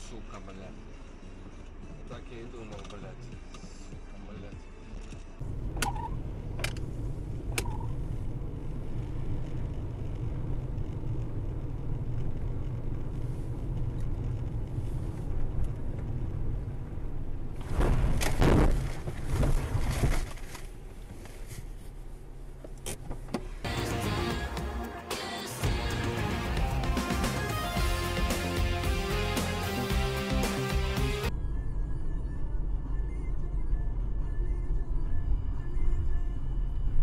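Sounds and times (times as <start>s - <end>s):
engine and road noise: 0.0s - 37.0s.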